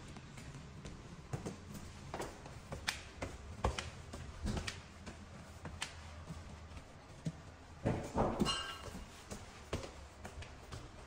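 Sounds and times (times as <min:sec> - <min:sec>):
footsteps in empty room: 0:00.0 - 0:11.0
low steady room rumble: 0:00.0 - 0:11.0.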